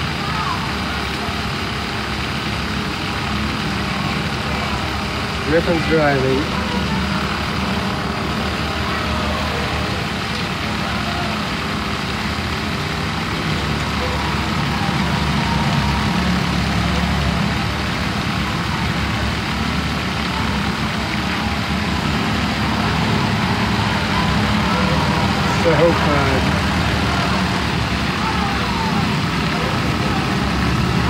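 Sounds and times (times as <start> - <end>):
nearby boat engine: 0.0 - 31.0
small boat engines running: 0.0 - 31.0.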